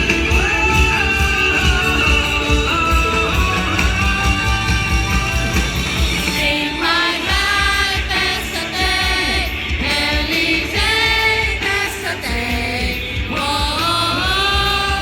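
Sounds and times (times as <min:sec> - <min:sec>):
live rock band playing: 0:00.0 - 0:15.0
voices singing long notes: 0:00.0 - 0:15.0.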